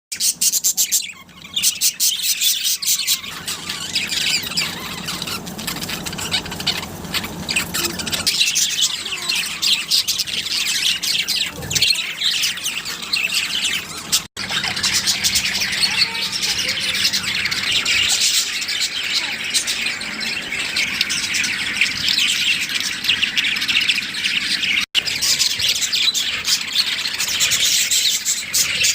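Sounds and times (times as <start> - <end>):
budgerigars chirping and chattering: 0.1 - 28.9.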